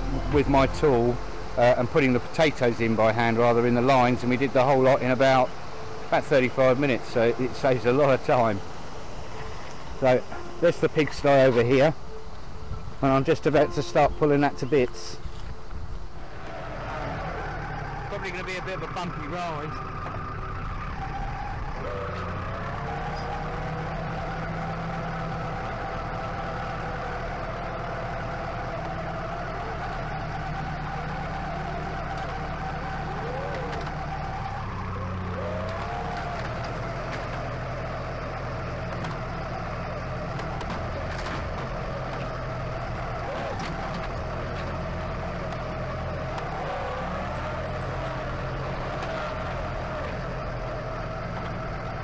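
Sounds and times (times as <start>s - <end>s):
tractor engine running: 0.0s - 52.0s
wavering high whine: 0.0s - 52.0s.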